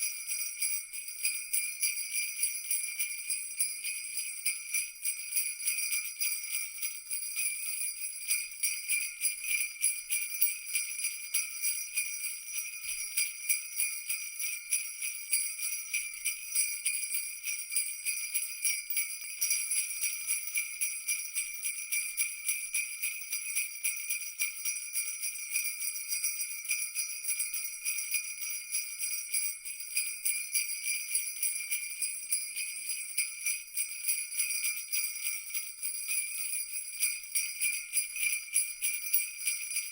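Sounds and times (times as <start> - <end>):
jingle bells shaken: 0.0 - 39.9.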